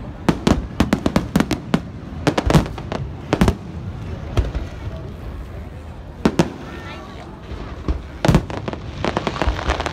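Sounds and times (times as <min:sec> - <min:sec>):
fireworks bangs: 0:00.0 - 0:05.1, 0:06.1 - 0:09.9.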